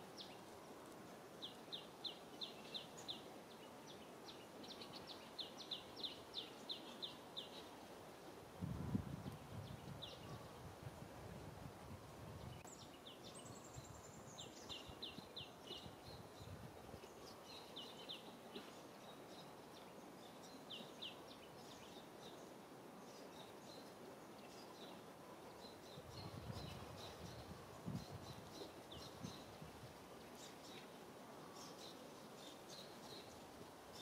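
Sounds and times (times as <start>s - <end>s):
small birds chirping: 0.0s - 8.0s, 9.2s - 10.6s, 12.4s - 34.0s
faint background noise: 0.0s - 34.0s.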